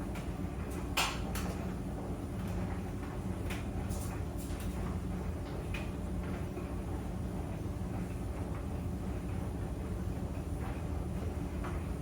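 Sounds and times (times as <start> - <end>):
clothes dryer rumbling: 0.0 - 12.0.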